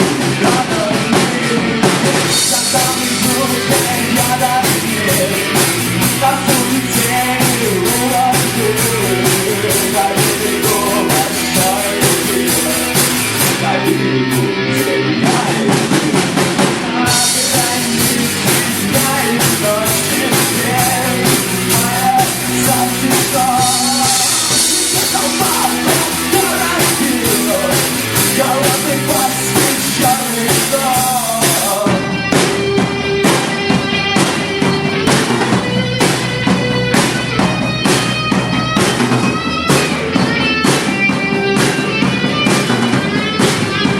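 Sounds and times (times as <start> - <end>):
drum kit beat: 0.0 - 43.9
electric guitar: 0.0 - 43.9
live rock band playing: 0.0 - 43.9.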